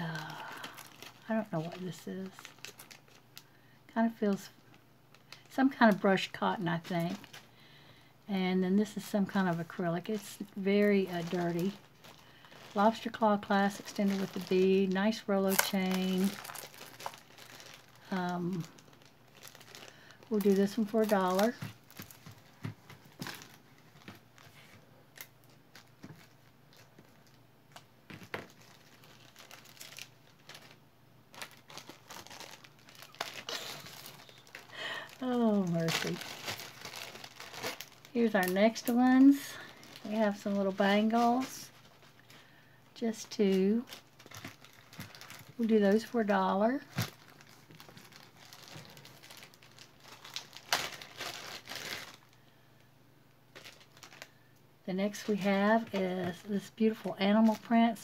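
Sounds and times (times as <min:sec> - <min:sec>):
crinkling rustling handling noise: 0:00.0 - 0:52.9, 0:53.5 - 0:58.0.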